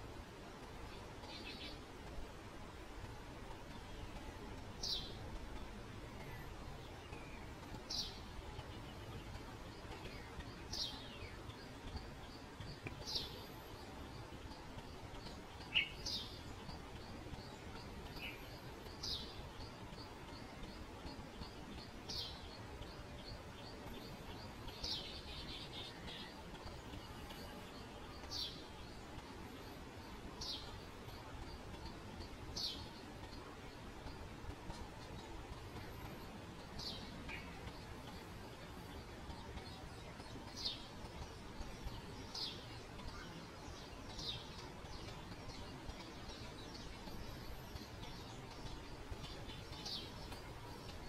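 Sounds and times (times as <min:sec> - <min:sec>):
low background hiss: 0:00.0 - 0:51.0
small birds chirping: 0:00.0 - 0:51.0.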